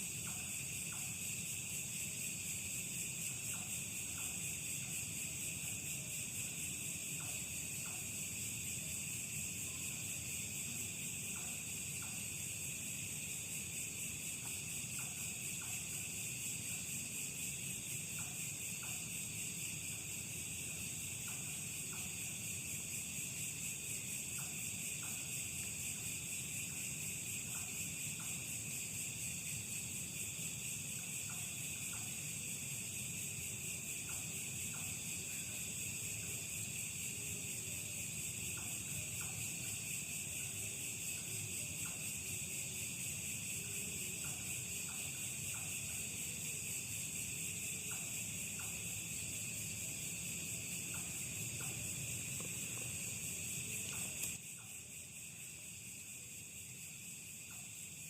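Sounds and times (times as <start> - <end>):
night insects chorus: 0.0 - 58.0.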